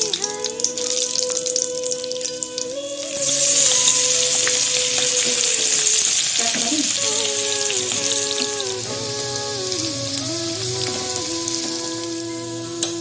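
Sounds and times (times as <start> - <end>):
background music: 0.0 - 13.0
food sizzling in a pan: 0.0 - 13.0.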